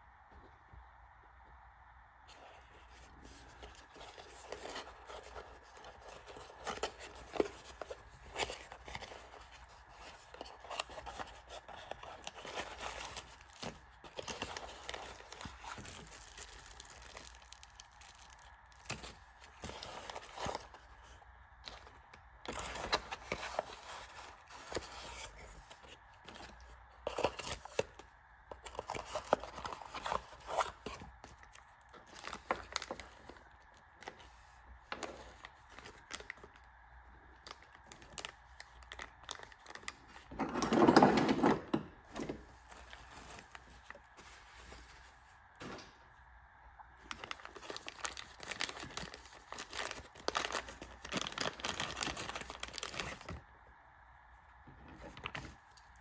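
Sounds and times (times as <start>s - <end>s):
plastic bag crinkling: 2.3s - 36.7s, 37.3s - 41.2s, 42.1s - 45.9s, 47.0s - 53.4s.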